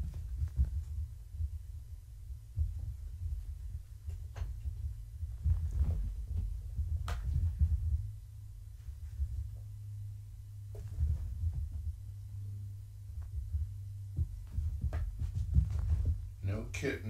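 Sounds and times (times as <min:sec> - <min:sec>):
kittens thudding on carpet: 0:00.0 - 0:01.8, 0:02.5 - 0:09.7, 0:10.7 - 0:12.1, 0:13.1 - 0:16.4
steady low hum: 0:00.0 - 0:17.0.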